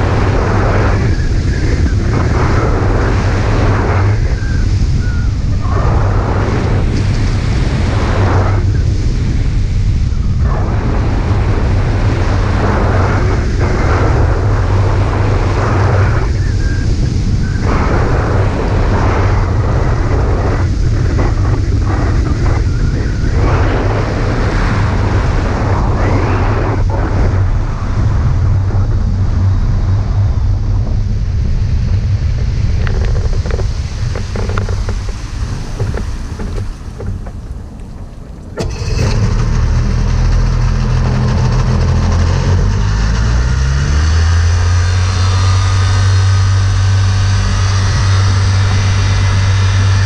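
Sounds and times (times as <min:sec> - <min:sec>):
heavy wind buffeting microphone: 0:00.0 - 0:50.0.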